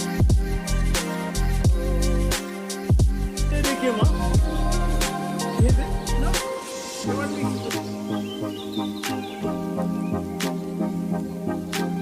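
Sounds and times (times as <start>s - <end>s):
sliding bass notes: 0.0s - 2.4s, 3.0s - 12.0s
hip-hop beat: 0.0s - 12.0s.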